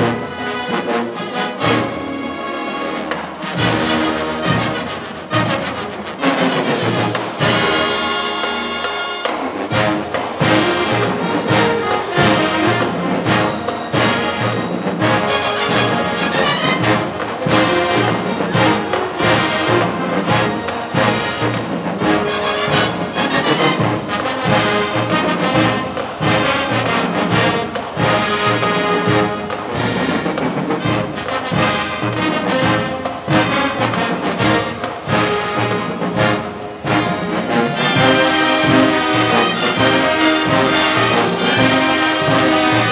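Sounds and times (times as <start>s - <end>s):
marching band brass: 0.0s - 42.9s
drumline beat: 3.1s - 42.9s.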